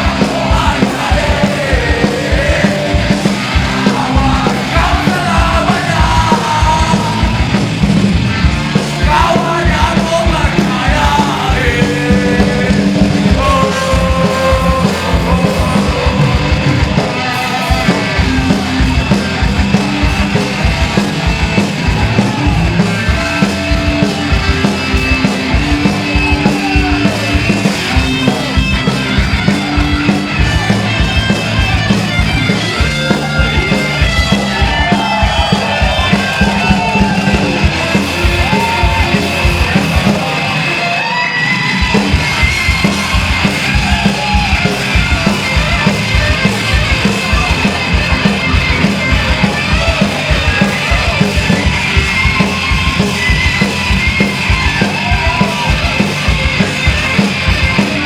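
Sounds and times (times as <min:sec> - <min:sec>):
punk rock band playing live: 0:00.0 - 0:58.0
shouted vocals: 0:00.0 - 0:58.0.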